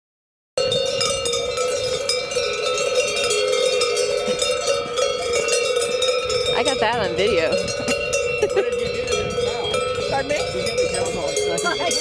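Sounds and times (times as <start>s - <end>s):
cowbells clanking: 0.6s - 12.0s.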